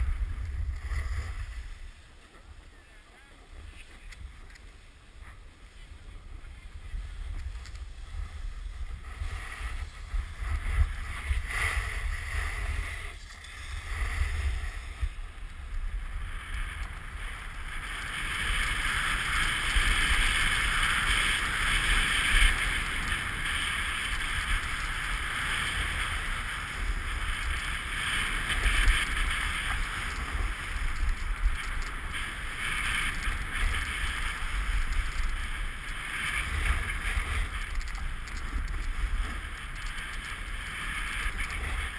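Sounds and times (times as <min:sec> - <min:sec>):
snowboard scraping on snow: 0:00.0 - 0:02.8, 0:04.7 - 0:41.9
wind rumble on microphone: 0:00.0 - 0:41.9.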